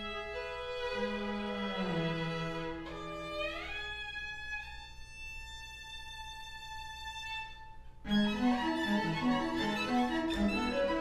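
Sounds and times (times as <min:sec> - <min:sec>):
string quartet playing: 0:00.0 - 0:11.0.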